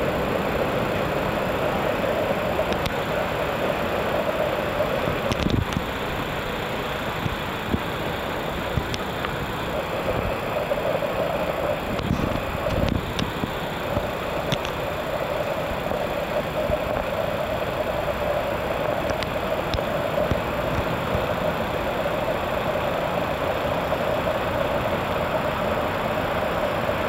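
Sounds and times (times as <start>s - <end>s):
city ambient rumble: 0.0s - 27.0s
mid-pitched hum: 0.0s - 27.0s.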